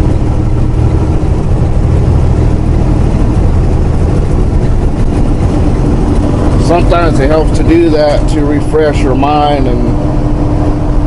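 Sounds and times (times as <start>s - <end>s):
road noise: 0.0s - 11.0s
truck diesel engine: 0.0s - 11.0s.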